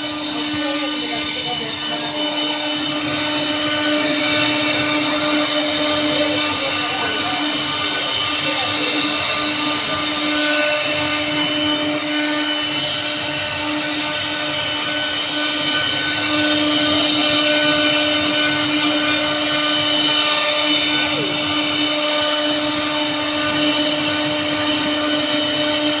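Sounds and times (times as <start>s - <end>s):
electric wood planer running: 0.0s - 26.0s.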